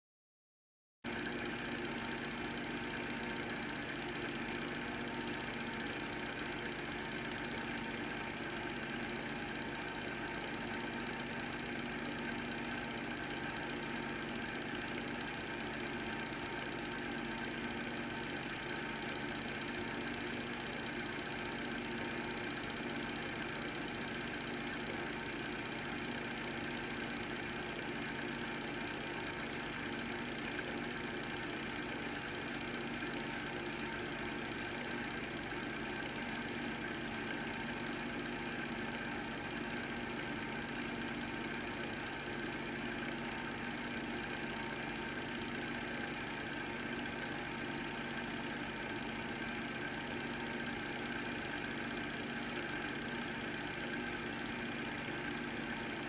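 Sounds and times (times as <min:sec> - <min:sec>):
film projector running: 0:01.1 - 0:56.0.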